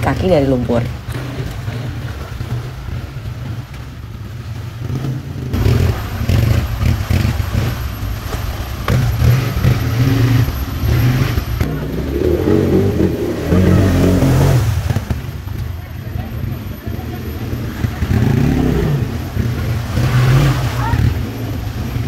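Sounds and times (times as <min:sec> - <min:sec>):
quad bike engines revving: 0:00.0 - 0:22.0
water splashing under tyres: 0:00.0 - 0:22.0.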